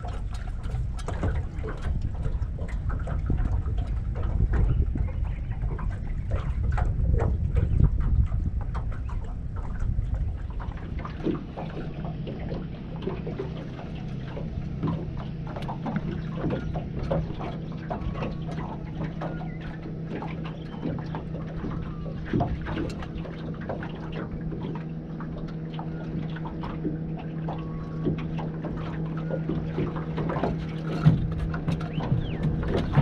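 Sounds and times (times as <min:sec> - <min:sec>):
low motor hum: 0:00.0 - 0:33.0.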